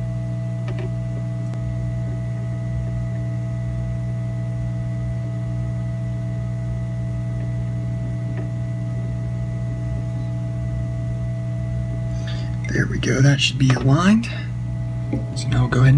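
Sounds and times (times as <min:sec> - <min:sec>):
steady electrical hum: 0:00.0 - 0:15.9.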